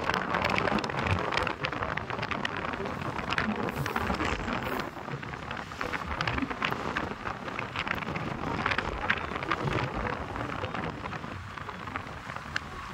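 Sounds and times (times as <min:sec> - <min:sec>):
small crackles: 0:00.0 - 0:12.9
wind rumbling on microphone: 0:00.0 - 0:12.9.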